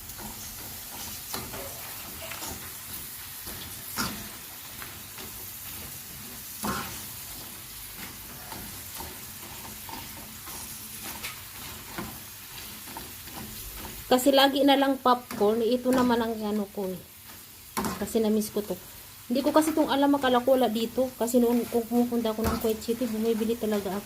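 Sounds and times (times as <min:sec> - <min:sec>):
crackers sizzling in hot oil: 0:00.0 - 0:24.0.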